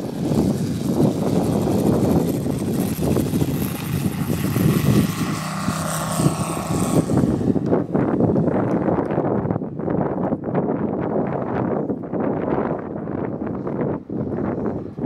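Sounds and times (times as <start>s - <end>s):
model airplane engine running hard: 0.0s - 9.6s, 11.3s - 15.0s.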